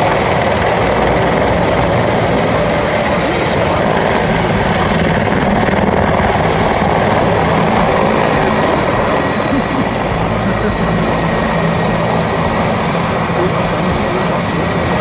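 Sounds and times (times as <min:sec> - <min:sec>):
helicopter in flight: 0:00.0 - 0:15.0.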